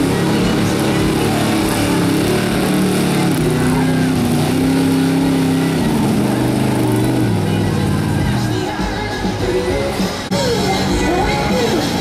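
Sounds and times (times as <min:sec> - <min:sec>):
truck engine running under load: 0:00.0 - 0:10.3.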